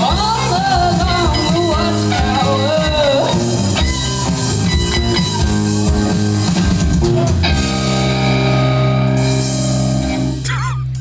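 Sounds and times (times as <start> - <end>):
rock band playing: 0.0 - 11.0
ringing guitar chord: 1.2 - 10.4.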